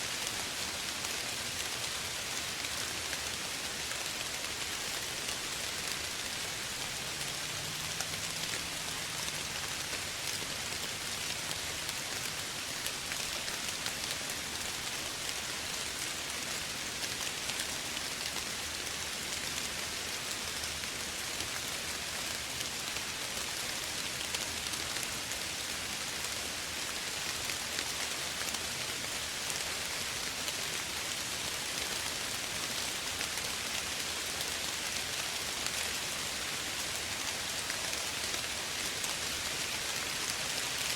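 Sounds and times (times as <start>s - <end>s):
soft rain falling: 0.0s - 40.9s.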